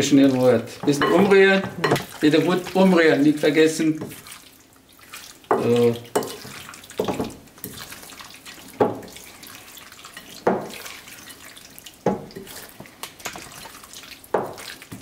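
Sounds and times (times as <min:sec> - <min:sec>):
spatula stirring wet chicken: 0:00.0 - 0:15.0.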